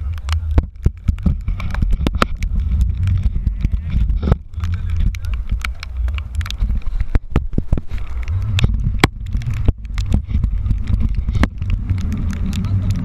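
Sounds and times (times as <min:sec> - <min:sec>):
raindrops clicking on camera: 0:00.0 - 0:13.0
wind rumble on microphone: 0:00.0 - 0:13.0.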